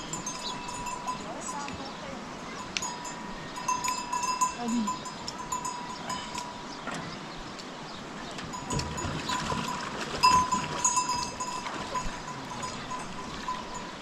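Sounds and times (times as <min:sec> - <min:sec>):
livestock bells ringing: 0:00.0 - 0:06.8, 0:08.5 - 0:14.0.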